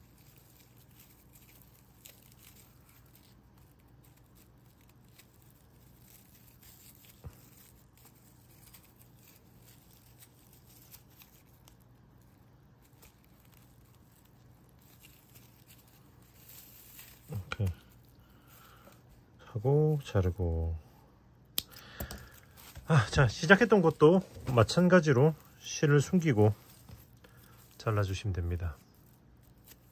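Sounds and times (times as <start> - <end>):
yarn rustling and crinkling: 0.0 - 20.8, 22.0 - 29.9.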